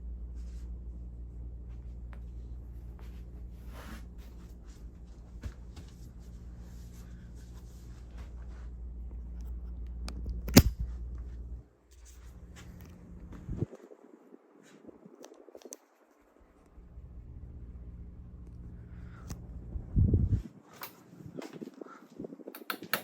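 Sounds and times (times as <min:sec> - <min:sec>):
ceiling fan motor humming: 0:00.0 - 0:23.0.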